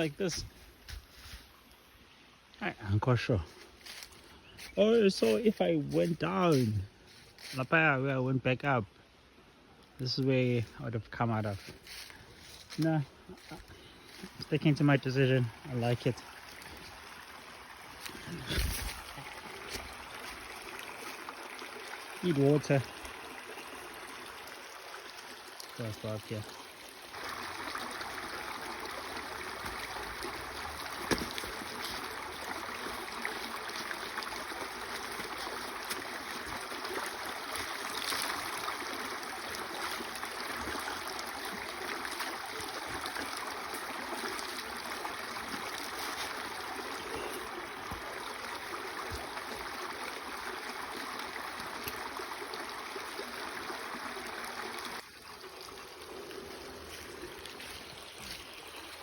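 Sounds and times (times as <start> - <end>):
small stream running: 0.0 - 59.0.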